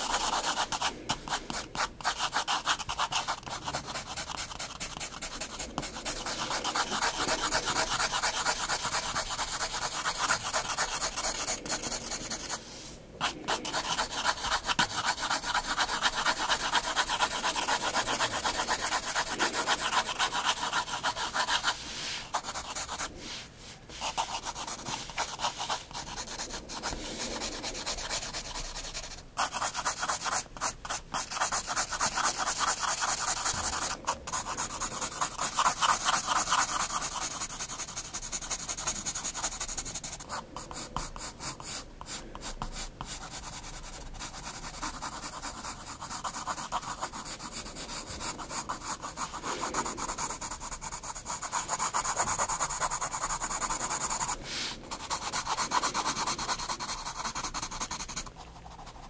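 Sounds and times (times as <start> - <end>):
pencil scratching on paper: 0.0 - 59.0.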